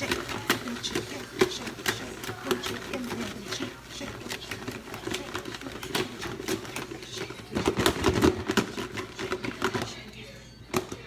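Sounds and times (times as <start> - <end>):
utensils clattering against cookware: 0.0 - 11.0.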